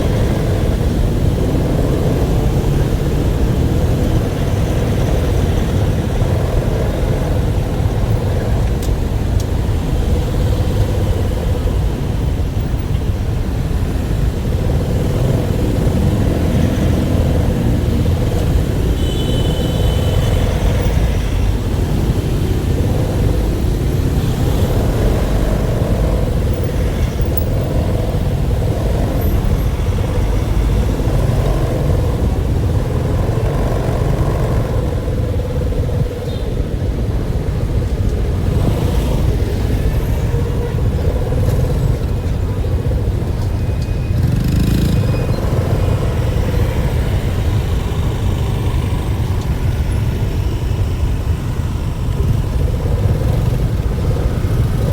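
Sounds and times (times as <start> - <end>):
vehicle engine rumbling: 0.0 - 54.9.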